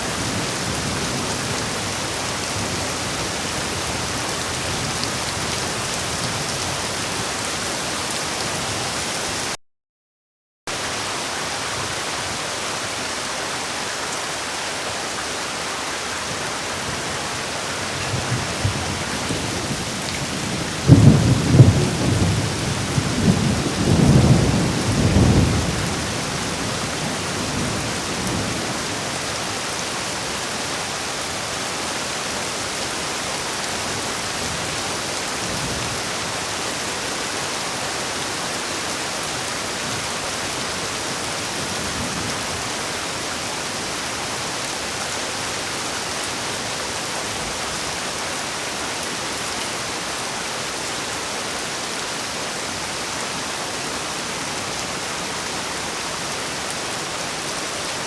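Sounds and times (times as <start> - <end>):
heavy rain: 0.0 - 9.6, 10.7 - 58.0.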